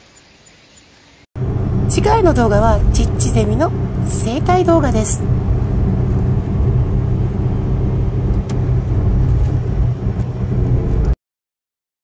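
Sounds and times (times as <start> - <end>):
car road and engine rumble: 1.4 - 11.2.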